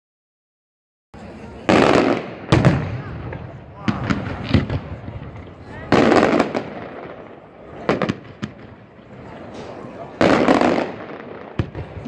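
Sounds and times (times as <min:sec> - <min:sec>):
fireworks crackling: 0:01.2 - 0:12.0
fireworks bangs: 0:01.4 - 0:12.0.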